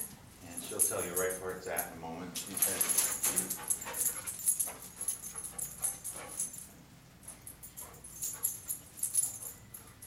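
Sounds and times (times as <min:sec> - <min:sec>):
light metallic jingle: 0:00.0 - 0:10.0.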